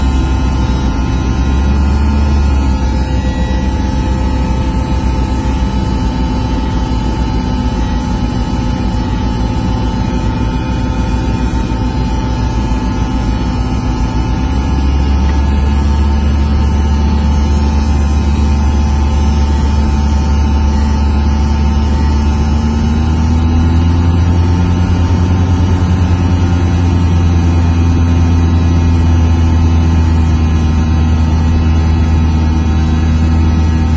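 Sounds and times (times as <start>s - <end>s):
small plane engine and propeller drone: 0.0s - 33.9s.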